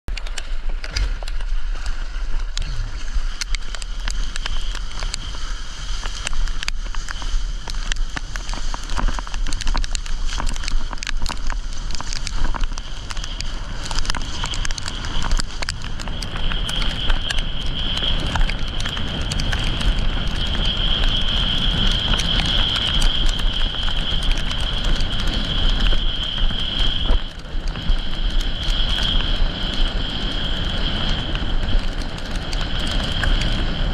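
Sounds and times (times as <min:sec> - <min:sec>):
hail and rain pattering: 0:00.2 - 0:33.9
wind and water rushing: 0:00.2 - 0:33.9.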